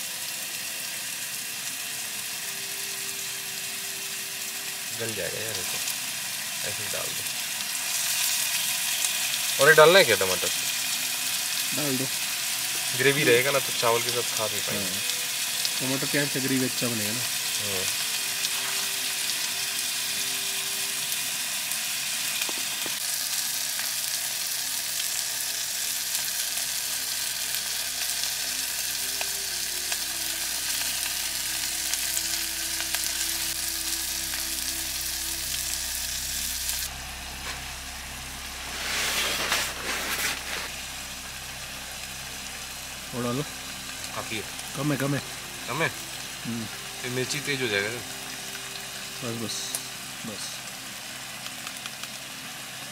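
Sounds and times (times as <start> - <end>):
gas stove: 0.0 - 52.9
sauce sizzling in a pot: 0.0 - 52.9.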